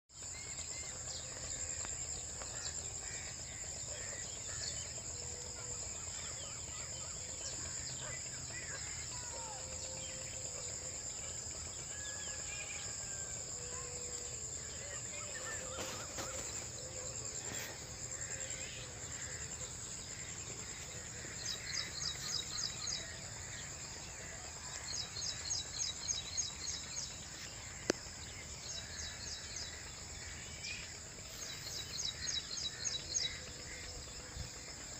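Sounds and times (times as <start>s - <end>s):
insect chorus: 0.1s - 34.9s
bird calls: 0.2s - 34.9s.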